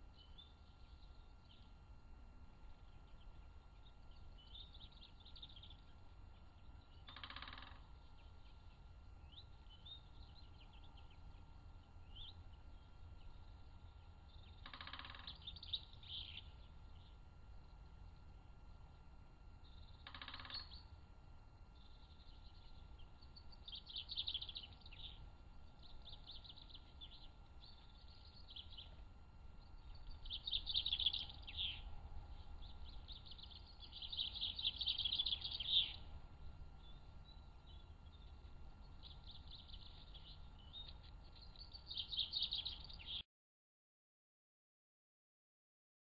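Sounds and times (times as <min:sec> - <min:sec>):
low steady hum: 0:00.0 - 0:43.2
songbirds singing trills: 0:00.0 - 0:43.2.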